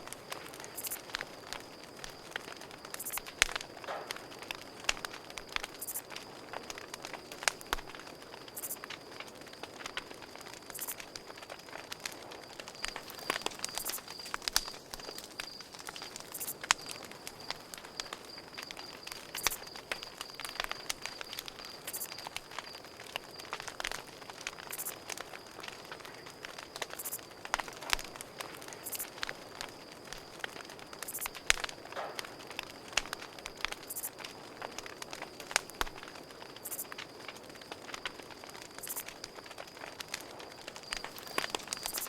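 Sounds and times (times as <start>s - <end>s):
burning wood popping: 0.0s - 42.0s
campfire crackling: 0.0s - 42.0s
cricket chirping: 0.0s - 42.0s.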